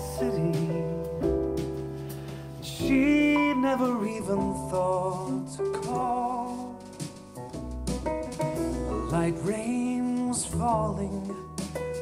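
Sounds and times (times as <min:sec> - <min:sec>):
song with singing over speakers: 0:00.0 - 0:07.4, 0:08.6 - 0:12.0
deep bass notes: 0:00.0 - 0:12.0.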